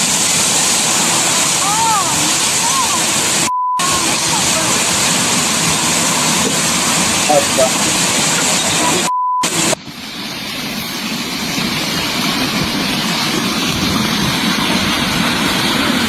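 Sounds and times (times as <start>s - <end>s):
landslide roar: 0.0s - 16.0s.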